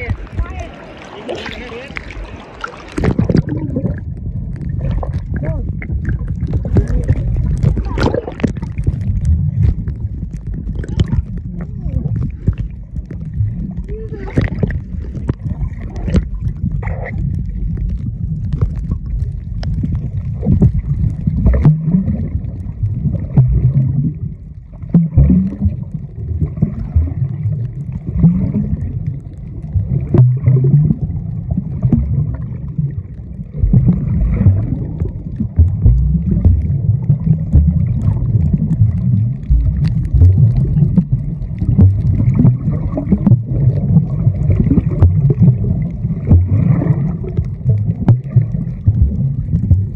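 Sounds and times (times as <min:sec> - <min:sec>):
underwater churning rumble: 0:00.0 - 0:49.9.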